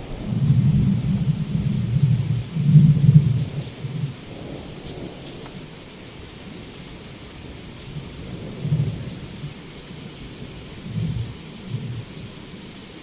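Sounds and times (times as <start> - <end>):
low rolling thunder: 0.0 - 12.7
heavy rain falling: 0.0 - 13.0.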